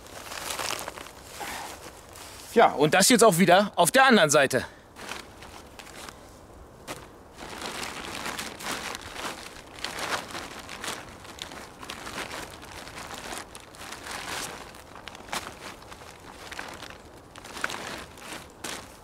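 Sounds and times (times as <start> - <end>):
plastic tarp crinkling: 0.0 - 1.9, 5.0 - 6.2, 6.9 - 19.0.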